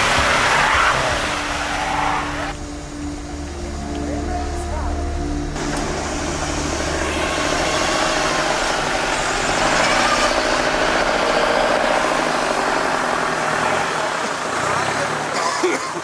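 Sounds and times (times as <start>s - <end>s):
vehicle engine driving through mud: 0.0s - 16.0s.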